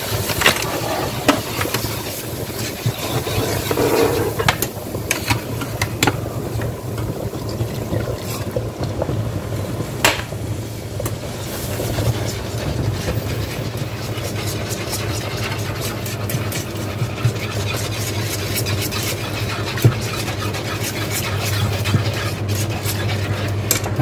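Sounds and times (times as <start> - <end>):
whisk scraping a saucepan: 0.0 - 8.6, 11.8 - 24.0.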